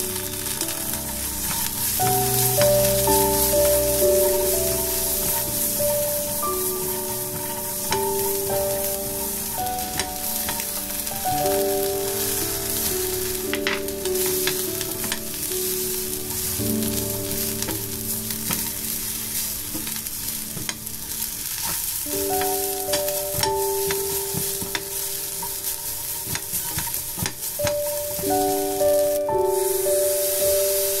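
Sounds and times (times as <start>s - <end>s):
soft background music: 0.0s - 31.0s
vegetables sizzling in oil: 0.0s - 31.0s.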